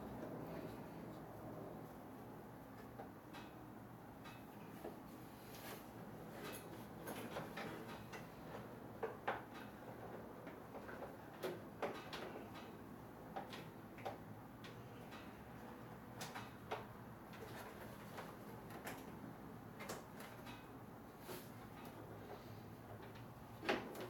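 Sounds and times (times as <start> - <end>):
clicks and knocks of rubber hoses: 4.2 - 24.0.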